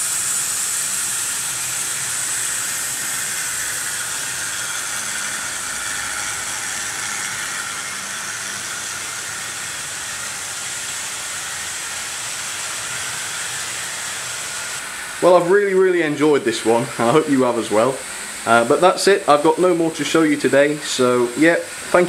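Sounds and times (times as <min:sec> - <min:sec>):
model trains whirring: 0:00.0 - 0:22.0.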